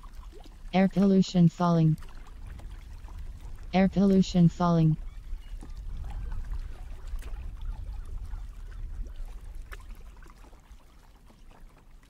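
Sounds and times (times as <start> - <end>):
water splashing against kayak hull: 1.5 - 12.0.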